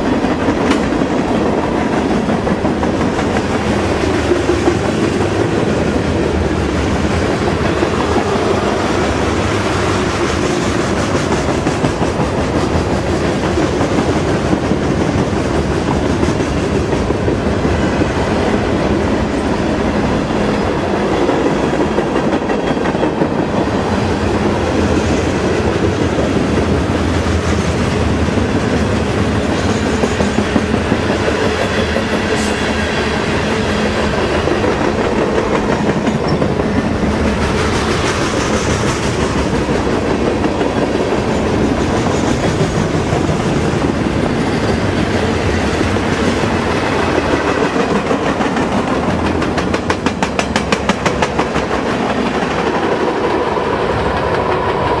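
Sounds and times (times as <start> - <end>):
freight cars rumbling and rattling: 0.0 - 55.0
wheels clacking over rail joints: 0.0 - 55.0.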